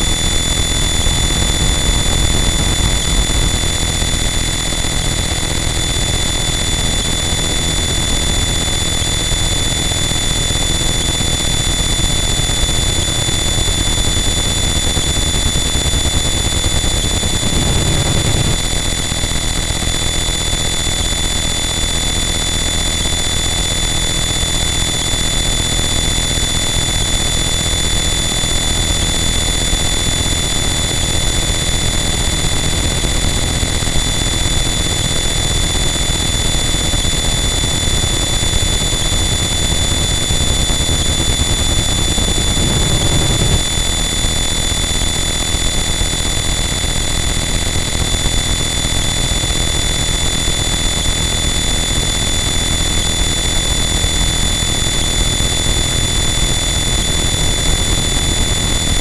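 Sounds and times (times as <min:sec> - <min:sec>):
loud distorted noise wall: 0:00.0 - 0:21.4, 0:23.5 - 0:59.0
high-pitched whines: 0:00.0 - 0:59.0.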